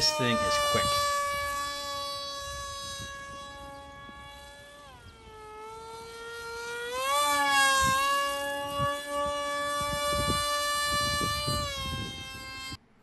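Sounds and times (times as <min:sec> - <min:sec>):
electric motor and propeller whining: 0:00.0 - 0:13.0.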